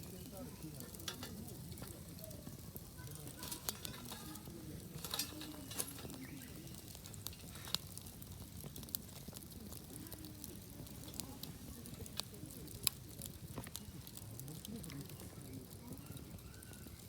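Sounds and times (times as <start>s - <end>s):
food sizzling: 0.0s - 17.0s
sharp pops and crackles: 0.0s - 17.0s.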